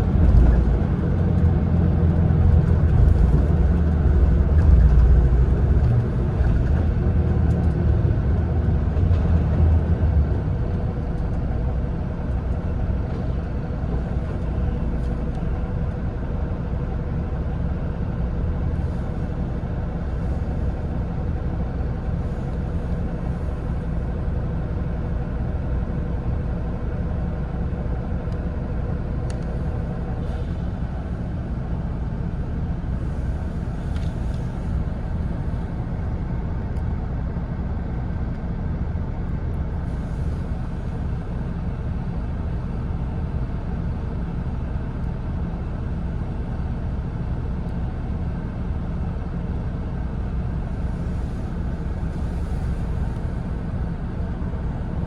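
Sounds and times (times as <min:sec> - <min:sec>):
coach engine and road noise: 0:00.0 - 0:55.0.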